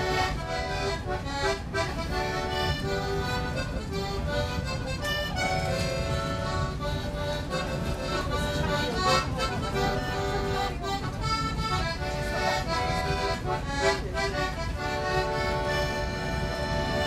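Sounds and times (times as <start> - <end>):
button accordion playing: 0.0 - 17.0.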